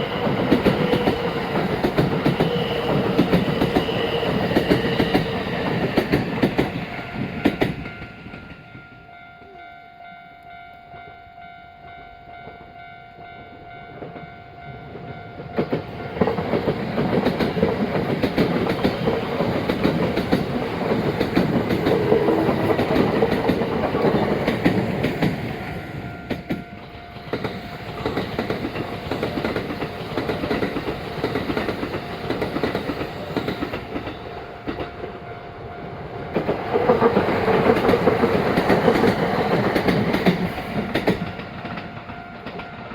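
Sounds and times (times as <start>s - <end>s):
train wheels clacking over rail joints: 0.0s - 8.6s, 15.6s - 35.1s, 36.2s - 42.9s.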